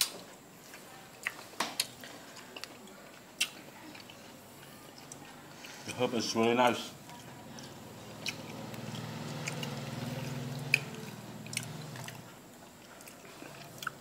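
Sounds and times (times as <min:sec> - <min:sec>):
person chewing food: 0:00.1 - 0:14.0.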